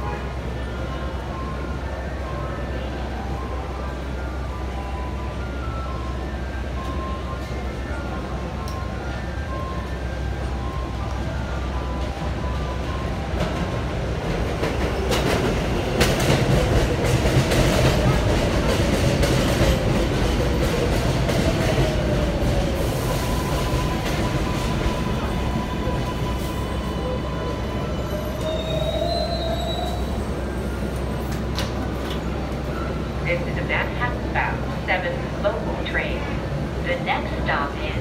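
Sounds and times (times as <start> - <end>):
train wheels rumbling on rails: 5.3 - 38.0.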